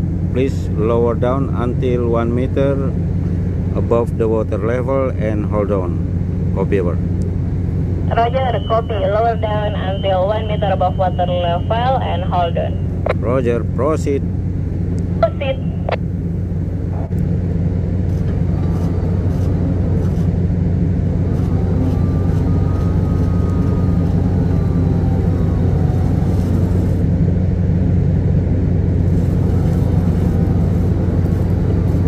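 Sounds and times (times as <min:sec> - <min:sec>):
low mechanical rumble of machinery: 0:00.0 - 0:32.0.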